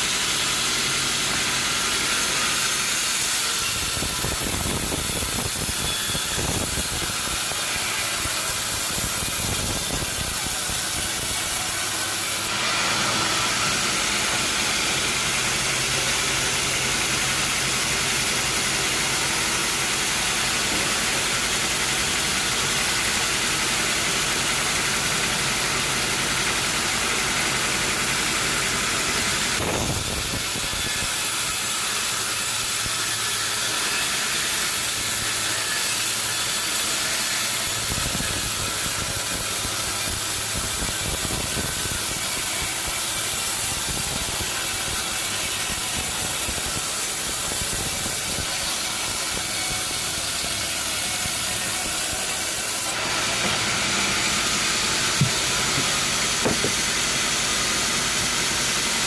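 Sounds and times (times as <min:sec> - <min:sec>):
loud hissing saw: 0:00.0 - 0:59.0
sawmill engine running: 0:00.0 - 0:59.0.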